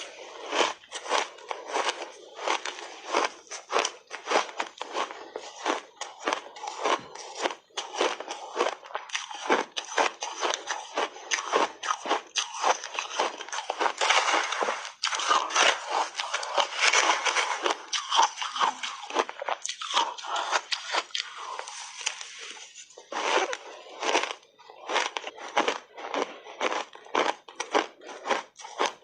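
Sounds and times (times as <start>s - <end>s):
person crunching shaved ice: 0.0s - 29.0s.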